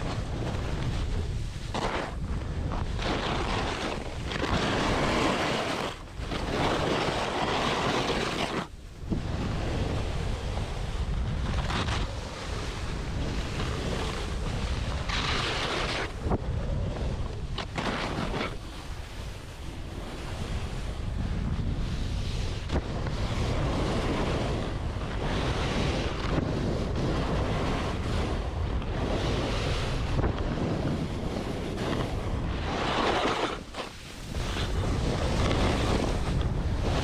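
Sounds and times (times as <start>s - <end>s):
skis scraping on snow: 0.0s - 37.0s
wind rumble on microphone: 0.0s - 37.0s.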